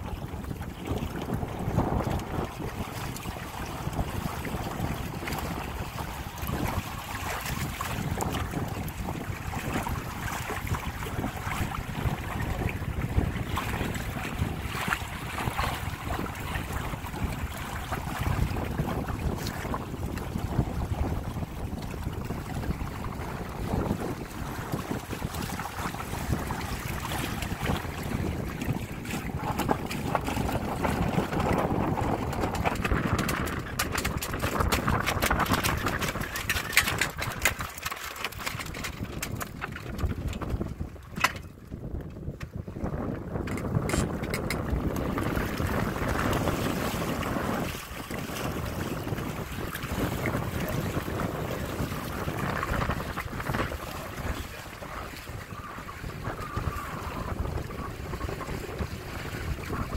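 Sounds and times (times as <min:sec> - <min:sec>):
water rushing against hulls: 0:00.0 - 0:59.9
wind buffeting microphone: 0:00.0 - 0:59.9.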